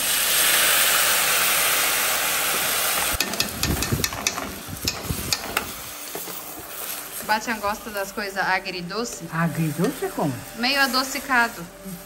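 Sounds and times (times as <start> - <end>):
sauce sizzling in hot oil: 0.0 - 12.0.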